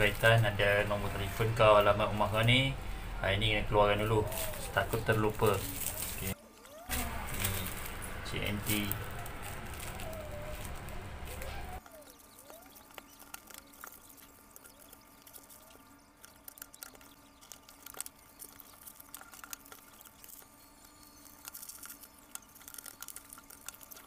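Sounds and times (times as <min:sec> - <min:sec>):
plastic bag crackling and rustling: 0:00.0 - 0:24.0.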